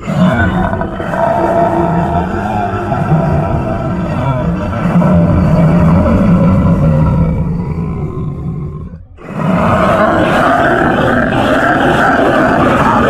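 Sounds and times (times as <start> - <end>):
dragon roar: 0.0 - 13.0.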